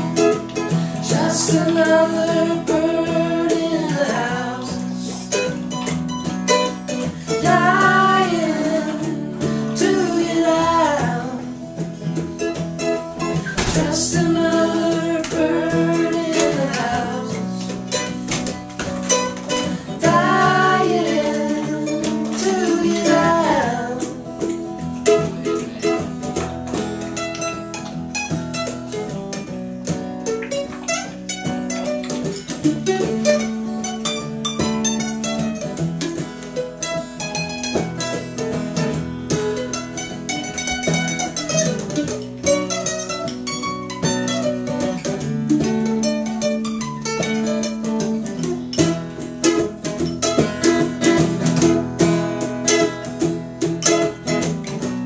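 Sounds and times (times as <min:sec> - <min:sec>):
acoustic guitar: 0:00.0 - 0:55.0
mandolin: 0:00.0 - 0:55.0.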